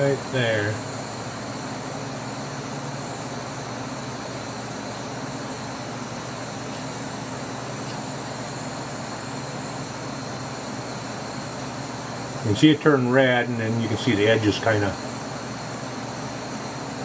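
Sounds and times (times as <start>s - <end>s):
butane torch hissing: 0.0s - 17.0s.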